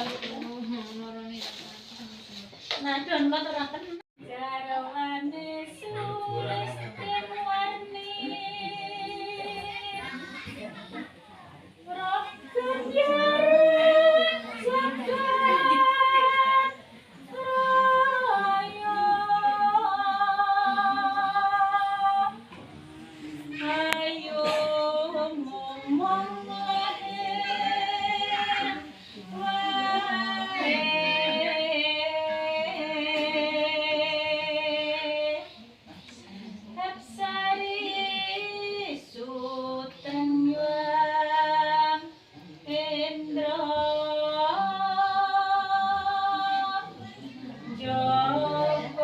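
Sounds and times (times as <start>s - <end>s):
woman singing with vibrato: 4.2s - 10.0s, 11.9s - 22.5s, 23.4s - 35.5s, 36.7s - 47.0s, 47.7s - 49.0s.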